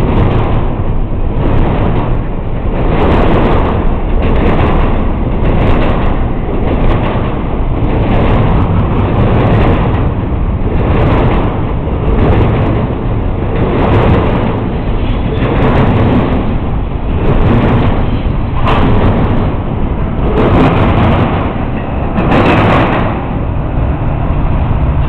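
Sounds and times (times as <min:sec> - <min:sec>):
freight train wheels rumbling on rails: 0:00.0 - 0:25.0.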